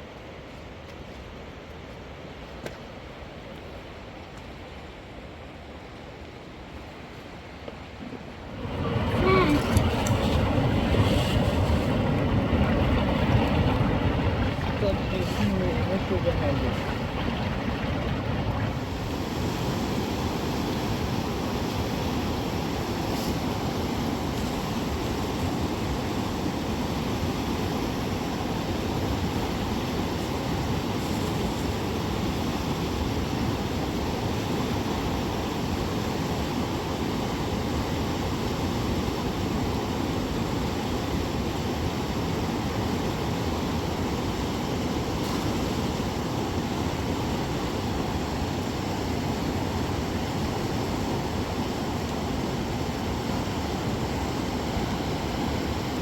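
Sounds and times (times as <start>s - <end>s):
fast-flowing river rushing: 7.8s - 31.0s, 31.6s - 56.0s.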